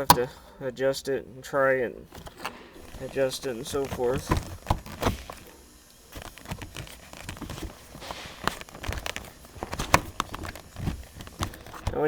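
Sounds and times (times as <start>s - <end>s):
gear shifter clicks and knocks: 0.0s - 0.7s, 1.9s - 12.0s
rustling: 1.5s - 12.0s.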